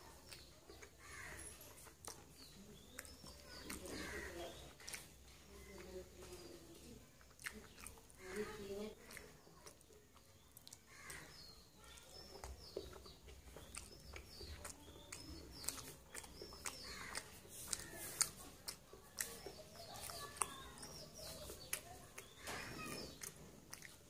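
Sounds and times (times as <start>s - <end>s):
small birds chirping: 0.0s - 24.0s
wet chewing and mouth clicks: 0.0s - 24.0s.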